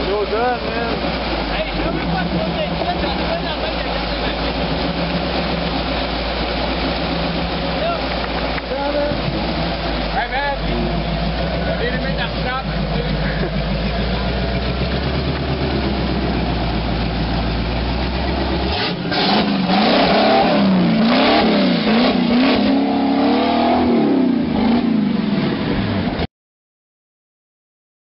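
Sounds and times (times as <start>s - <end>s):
engine revving: 0.0s - 26.3s.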